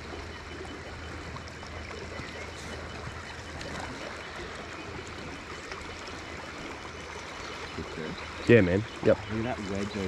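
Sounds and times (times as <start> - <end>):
river water running: 0.0 - 10.0.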